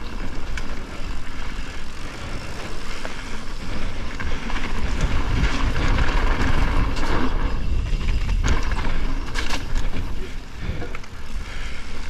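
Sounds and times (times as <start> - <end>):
bike clicks and rattles: 0.0 - 12.0
tyres hissing over gravel: 0.0 - 12.0
wind rumbling on microphone: 0.0 - 12.0.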